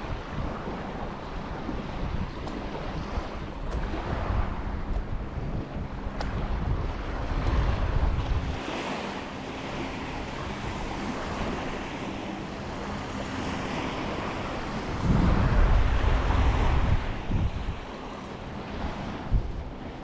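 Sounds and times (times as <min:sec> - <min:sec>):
ocean waves washing on beach: 0:00.0 - 0:20.0
wind buffeting microphone: 0:00.0 - 0:20.0.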